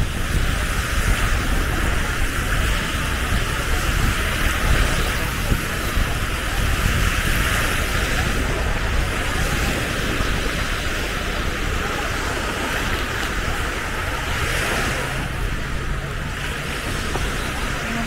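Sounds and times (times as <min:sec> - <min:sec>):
sea surf: 0:00.0 - 0:18.0
wind buffeting microphone: 0:00.0 - 0:18.0.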